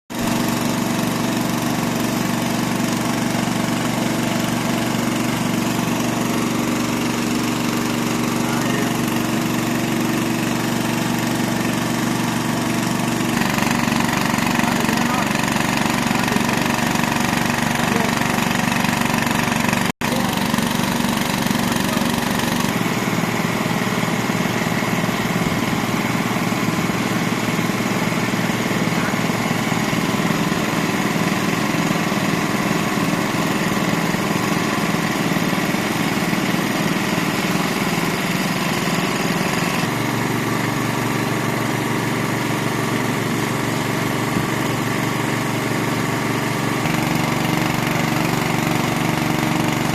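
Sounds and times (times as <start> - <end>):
drilling machine engine running: 0.1 - 49.9.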